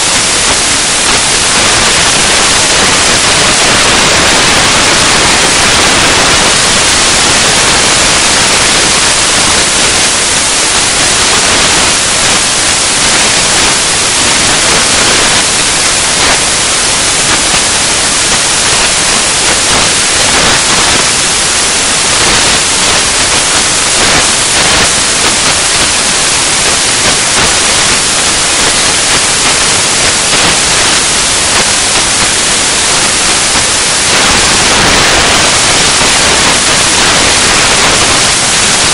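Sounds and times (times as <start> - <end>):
loud steady static hiss: 0.0 - 38.9.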